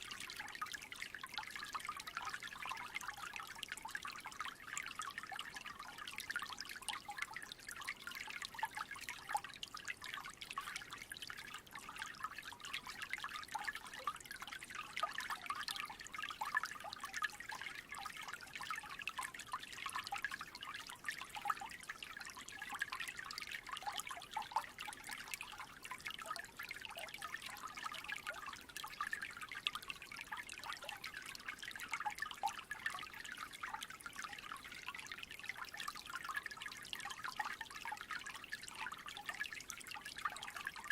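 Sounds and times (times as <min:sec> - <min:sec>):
creek trickling: 0:00.0 - 0:40.9.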